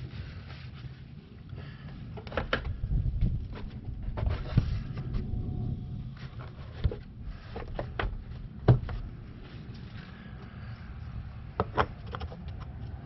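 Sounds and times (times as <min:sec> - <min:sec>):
low rumble: 0:01.0 - 0:11.6.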